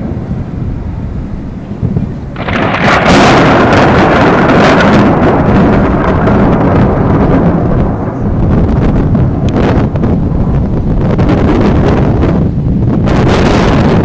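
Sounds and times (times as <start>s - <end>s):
close thunder rumbling: 0.0s - 14.0s.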